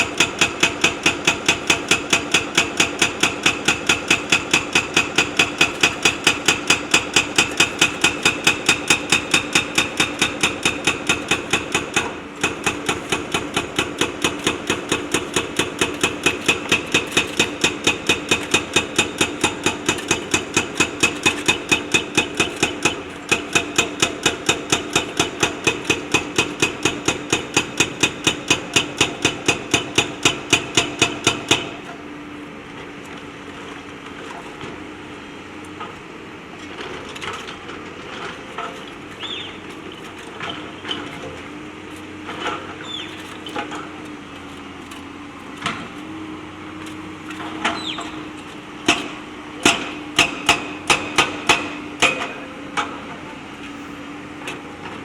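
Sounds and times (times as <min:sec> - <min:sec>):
hydraulic rock breaker hammering: 0:00.0 - 0:32.1, 0:35.7 - 0:53.7.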